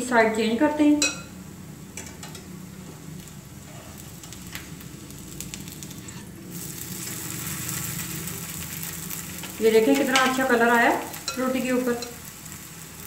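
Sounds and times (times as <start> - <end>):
flatbread sizzling in oil: 1.8 - 13.0.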